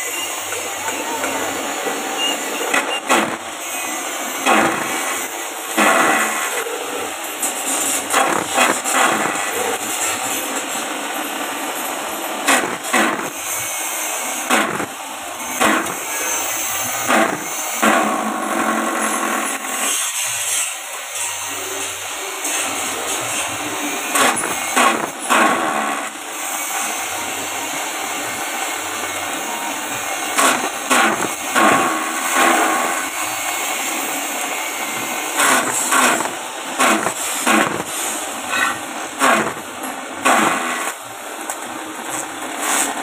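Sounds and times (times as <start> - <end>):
chaff cutter motor whir: 0.0 - 43.0.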